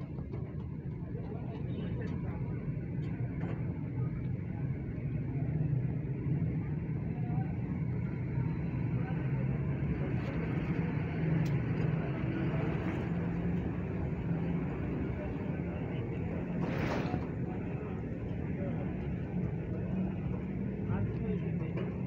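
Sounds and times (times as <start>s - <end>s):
low hum and rumble: 0.0s - 22.0s.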